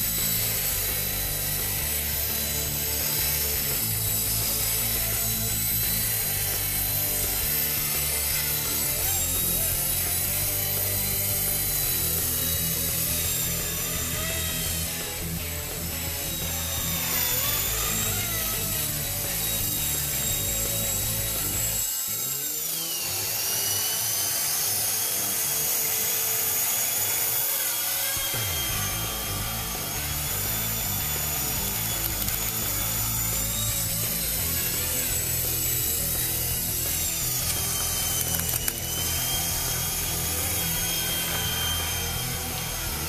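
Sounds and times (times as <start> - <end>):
gear buzz: 0.0 - 43.0
rc helicopter motor whine: 0.0 - 43.0.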